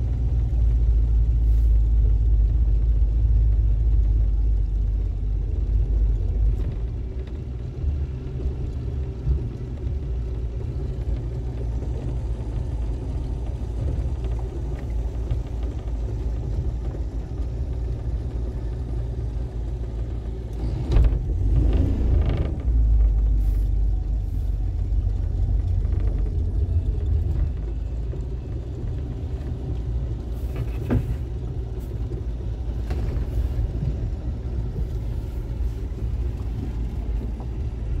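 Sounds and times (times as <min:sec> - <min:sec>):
outboard motor droning: 0:00.0 - 0:38.0.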